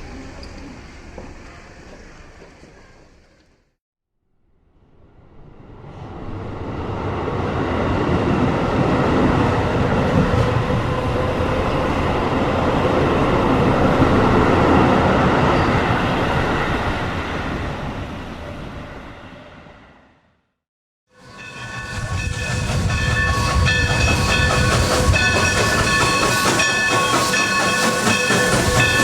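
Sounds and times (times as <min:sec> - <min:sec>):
train rumbling on rails: 0:00.0 - 0:03.7, 0:04.8 - 0:20.3, 0:21.1 - 0:29.0.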